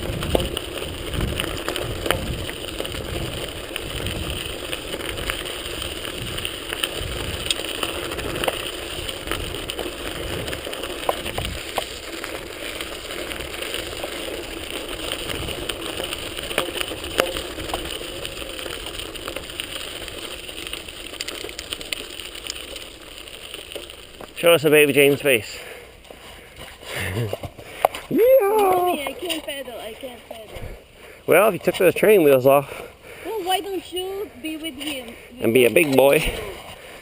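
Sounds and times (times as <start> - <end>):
bicycle clicks and rattles: 0.0 - 32.9, 34.6 - 37.0
bicycle rolling noise: 0.0 - 37.0.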